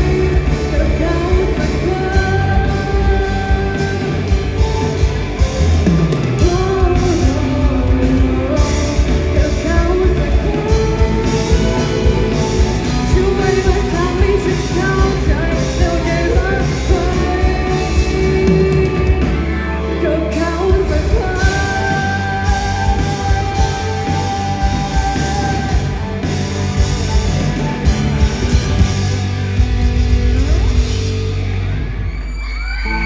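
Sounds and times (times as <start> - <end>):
drum beat with cymbals: 0.0 - 19.5, 20.7 - 31.5
lead singer vocals: 0.0 - 30.7
live rock band playing: 0.0 - 33.0.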